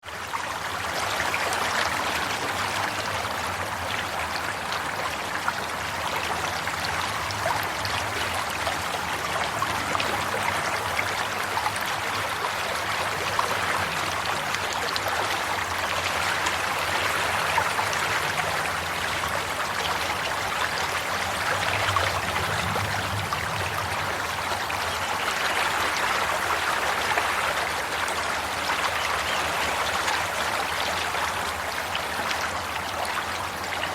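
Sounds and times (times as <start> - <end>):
stream water babbling: 0.0 - 33.9.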